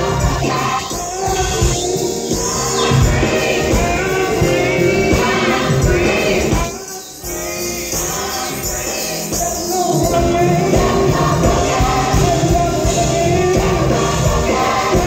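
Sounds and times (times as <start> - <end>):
gospel music with singing: 0.0 - 15.0
tambourine jingle: 0.0 - 15.0.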